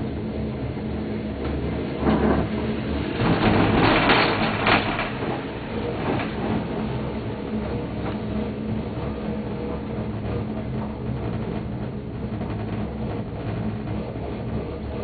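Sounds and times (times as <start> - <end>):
gondola cabin mechanical hum: 0.0 - 15.0
rattling noises: 1.4 - 15.0.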